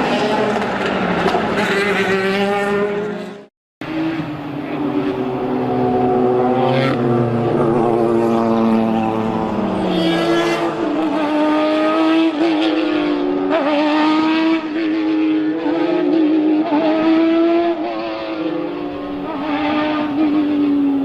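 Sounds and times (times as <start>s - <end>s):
race car engines at speed: 0.0s - 21.0s.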